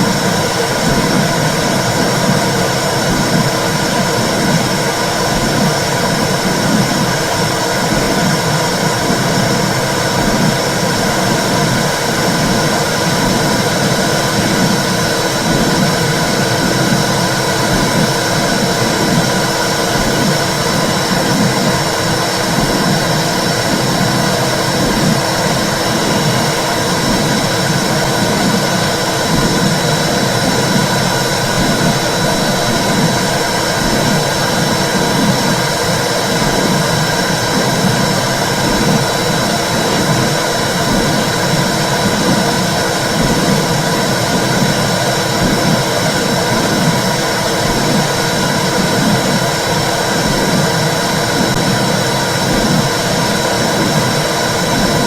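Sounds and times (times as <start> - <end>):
pulsing whooshing rumble: 0.0 - 55.0.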